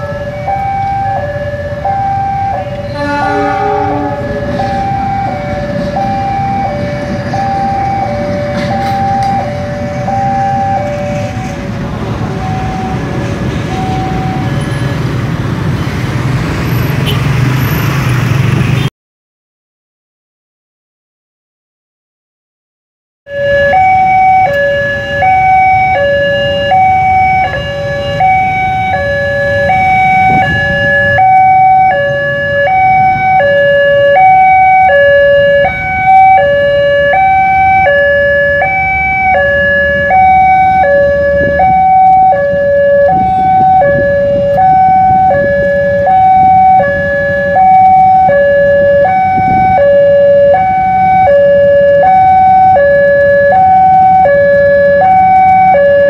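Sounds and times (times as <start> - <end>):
level crossing two-tone alarm: 0.0 - 11.6, 12.4 - 14.6, 23.3 - 56.0
traffic engine rumble: 0.0 - 18.9, 23.3 - 56.0.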